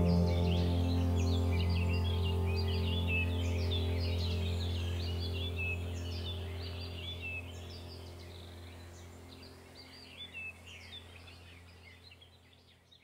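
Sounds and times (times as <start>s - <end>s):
steady low hum: 0.0s - 12.6s
small birds chirping: 0.0s - 13.0s.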